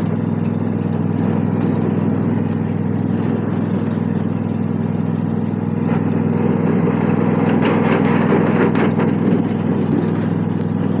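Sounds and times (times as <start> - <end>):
riding lawn mower engine: 0.0 - 11.0.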